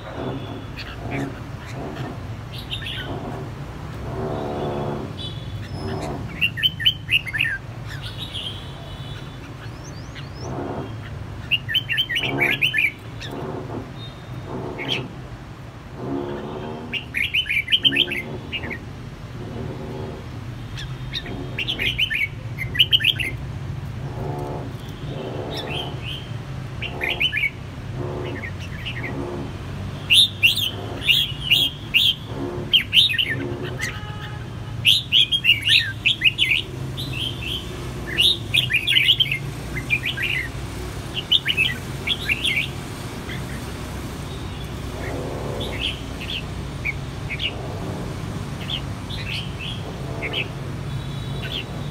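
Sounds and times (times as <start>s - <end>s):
birds singing chirpy phrases: 0.0s - 15.4s, 16.0s - 51.9s.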